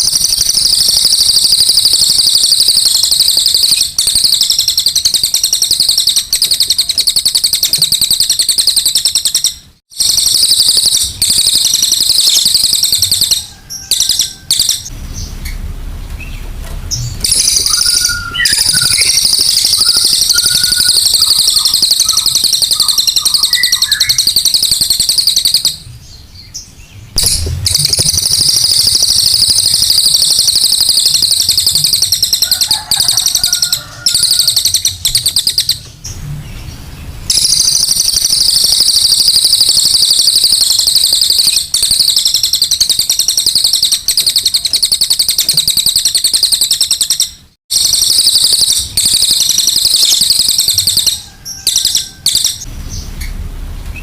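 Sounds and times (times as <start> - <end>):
songbird harsh chattering song: 0.0 - 15.6, 17.0 - 47.4.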